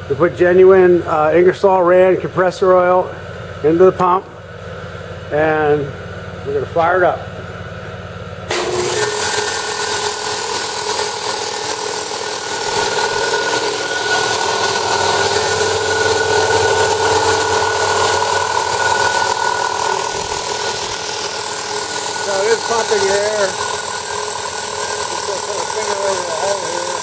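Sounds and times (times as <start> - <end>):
air compressor running: 0.0 - 27.0.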